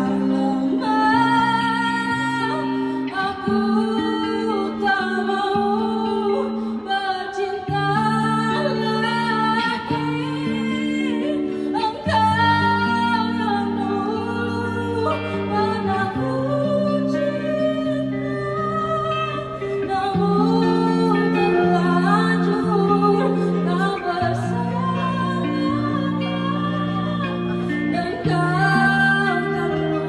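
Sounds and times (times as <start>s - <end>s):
acoustic instrumental accompaniment: 0.0s - 30.0s
person singing: 0.0s - 30.0s.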